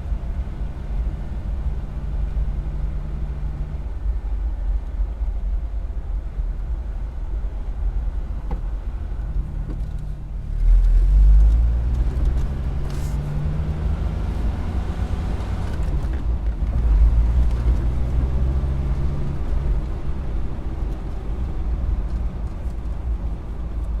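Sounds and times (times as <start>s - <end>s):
car engine idling and accelerating: 0.0s - 24.0s.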